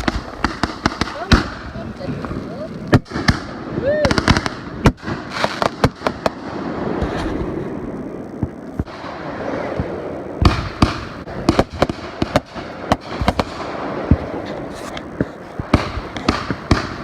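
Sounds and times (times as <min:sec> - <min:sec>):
continuous hiss: 0:00.0 - 0:17.0
fireworks bangs: 0:00.0 - 0:17.0.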